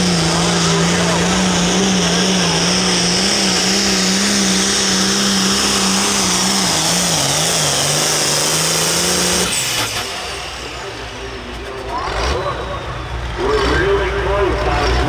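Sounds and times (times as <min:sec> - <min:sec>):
tractor engine droning under load: 0:00.0 - 0:15.0.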